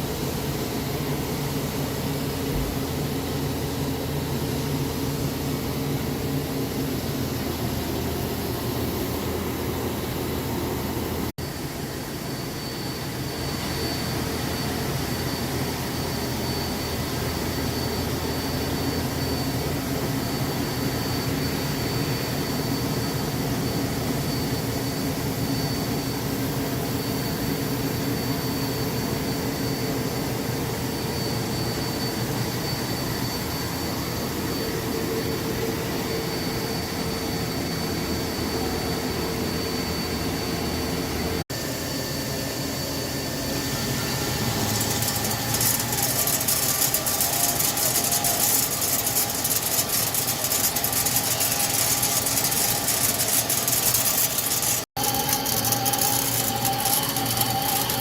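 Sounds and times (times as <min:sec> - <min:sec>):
high machine whine: 0:00.0 - 0:58.0
lathe machine drone: 0:00.0 - 0:58.0.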